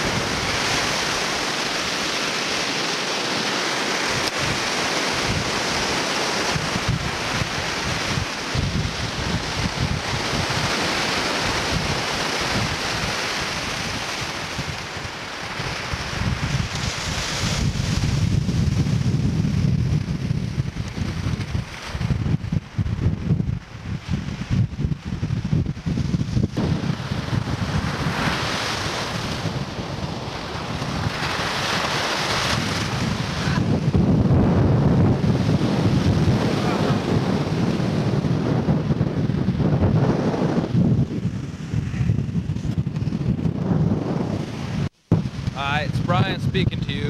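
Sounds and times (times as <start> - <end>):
waves breaking on rocks: 0.0 - 22.8, 25.2 - 43.4
wind buffeting microphone: 0.0 - 47.0.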